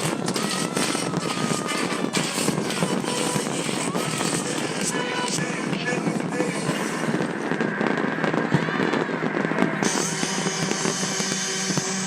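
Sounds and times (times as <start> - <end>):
dance music: 0.0 - 12.0
fireworks popping and crackling: 0.0 - 12.0.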